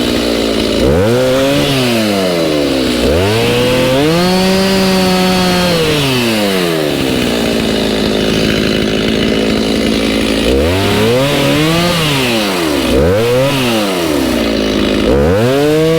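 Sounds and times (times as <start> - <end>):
chainsaw engine revving and idling: 0.0 - 15.9.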